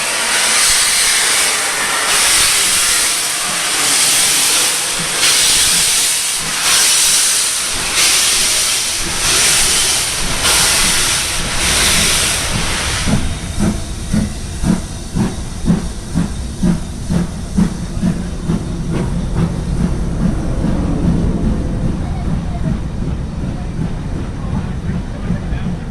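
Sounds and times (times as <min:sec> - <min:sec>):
steam locomotive chuffing: 0:00.0 - 0:25.9
steam locomotive hissing exhaust: 0:00.0 - 0:25.9.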